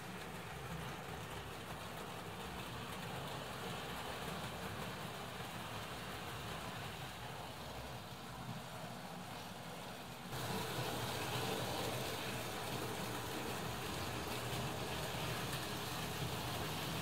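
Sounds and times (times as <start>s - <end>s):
model train running on metal track: 0.0s - 17.0s.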